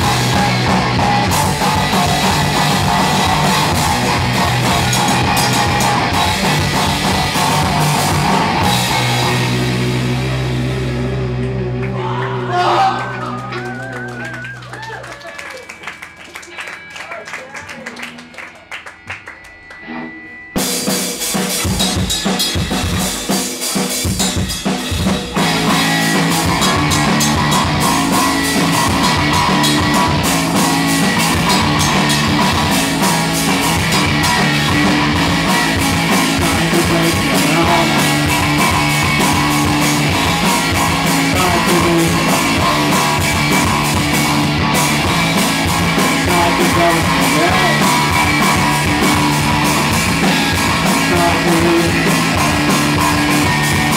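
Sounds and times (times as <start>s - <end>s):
drum kit: 0.0s - 12.8s, 17.9s - 53.9s
live rock band: 0.0s - 53.9s.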